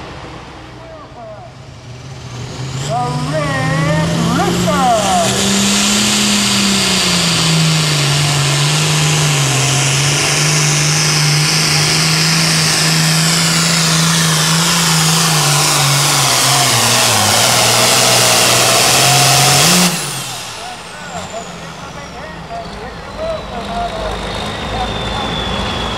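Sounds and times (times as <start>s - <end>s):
tractor diesel engine droning: 0.0s - 25.9s
high turbo whistle: 3.8s - 25.9s.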